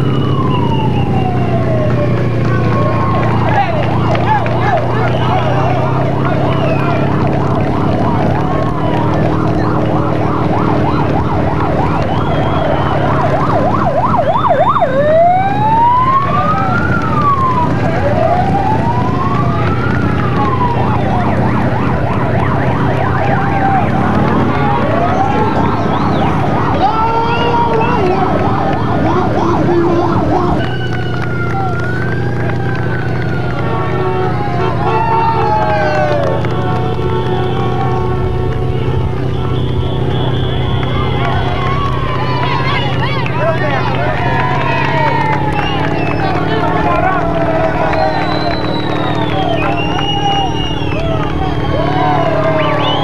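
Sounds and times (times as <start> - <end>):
electronic siren yelping and wailing: 0.0 - 53.0
engine hum: 0.0 - 53.0.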